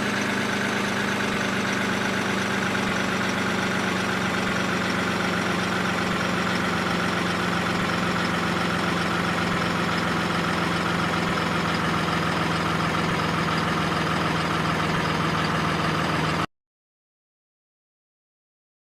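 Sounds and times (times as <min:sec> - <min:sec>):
engine drone: 0:00.0 - 0:16.5.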